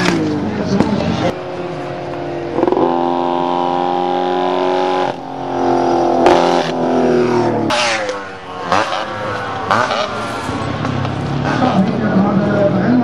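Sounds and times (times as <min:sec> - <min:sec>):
racing motorcycle engine revving: 0:00.0 - 0:13.0.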